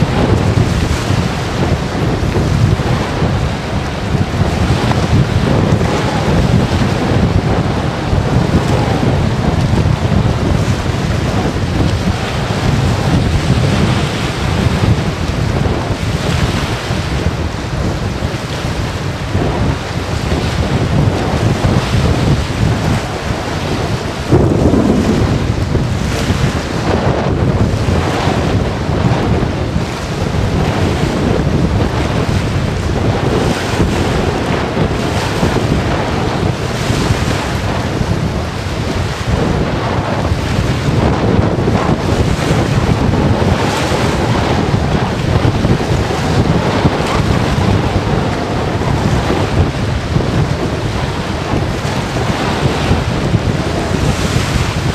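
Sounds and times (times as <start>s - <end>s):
storm wind buffeting microphone: 0.0s - 54.9s.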